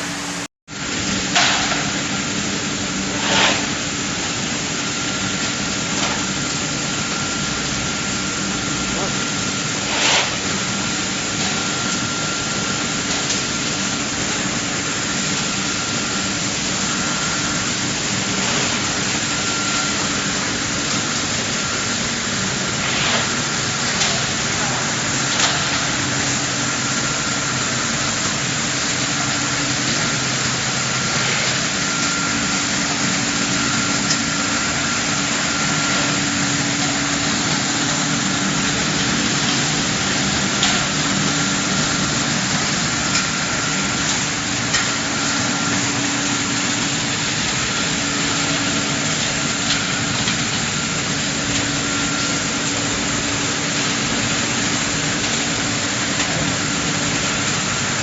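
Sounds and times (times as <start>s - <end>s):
drum dryer mechanical hum: 0.0s - 58.0s.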